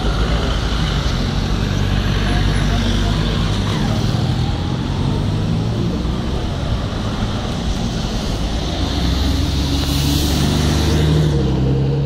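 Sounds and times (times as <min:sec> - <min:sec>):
road noise: 0:00.0 - 0:12.0
traffic engines droning: 0:00.0 - 0:12.0.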